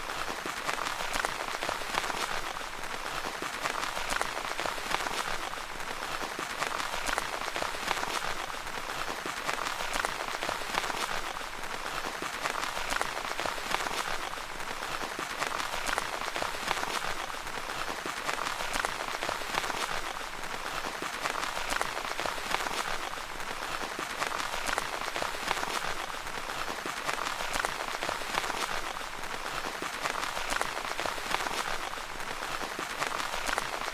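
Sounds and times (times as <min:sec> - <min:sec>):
rain on tent fabric: 0:00.0 - 0:33.9.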